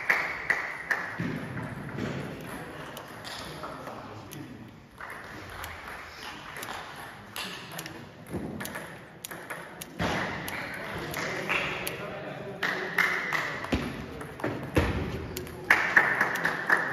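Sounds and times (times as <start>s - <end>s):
table tennis balls clicking: 0.0s - 16.9s
background murmur: 1.2s - 16.9s.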